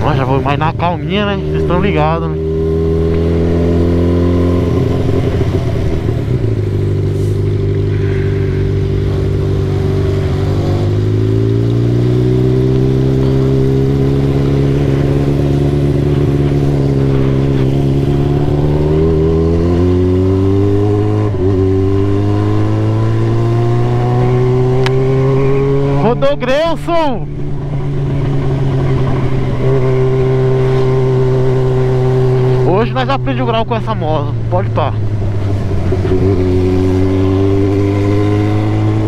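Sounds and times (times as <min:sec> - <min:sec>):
motorcycle engine droning: 0:00.0 - 0:39.0.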